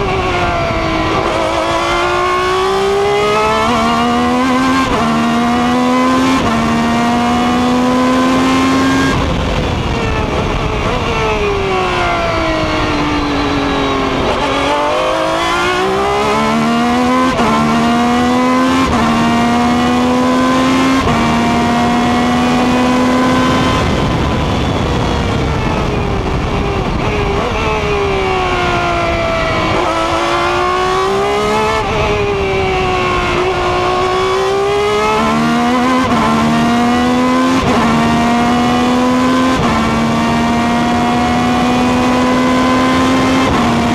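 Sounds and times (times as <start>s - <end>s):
racing car engine at high revs: 0.0s - 43.9s
wind and road noise: 0.0s - 43.9s.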